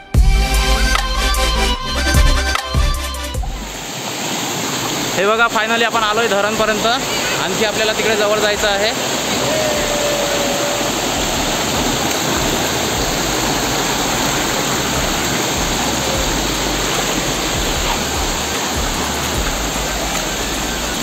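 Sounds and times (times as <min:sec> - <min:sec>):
waterfall rushing: 0:01.6 - 0:21.0
water cascading over boulders: 0:02.1 - 0:21.0.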